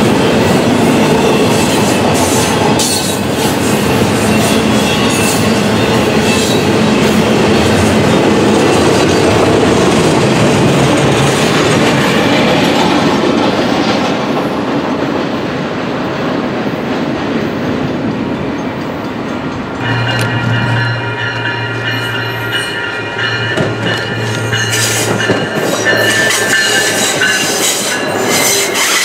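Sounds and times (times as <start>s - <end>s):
freight train rolling past: 0.0s - 29.0s
rail cars rattling: 0.0s - 29.0s.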